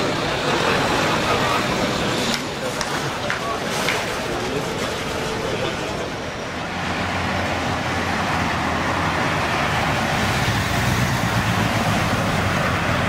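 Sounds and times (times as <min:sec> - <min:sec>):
tyre and street noise: 0:00.0 - 0:13.0
vehicle engine hum: 0:00.0 - 0:13.0.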